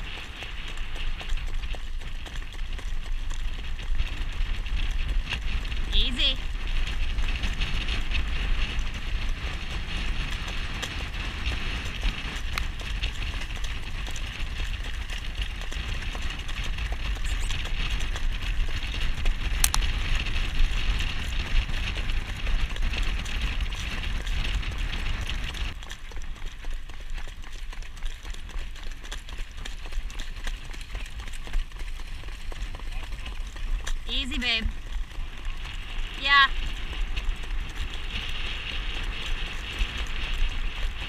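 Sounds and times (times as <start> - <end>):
hoofbeats of jogging horses: 0.0 - 41.0
wind rush on microphone: 0.0 - 41.0.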